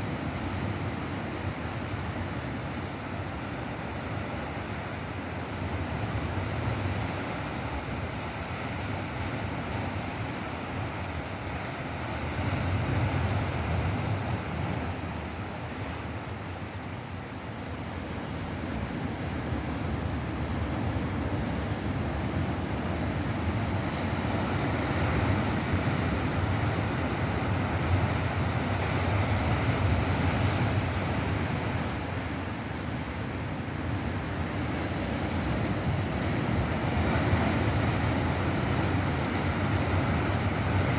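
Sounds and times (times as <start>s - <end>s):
ocean surf breaking on shore: 0.0s - 40.9s.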